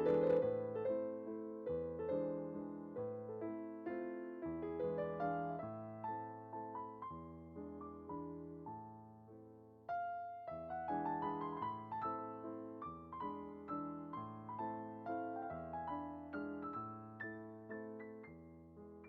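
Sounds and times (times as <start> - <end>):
soft solo piano music: 0.0 - 19.0.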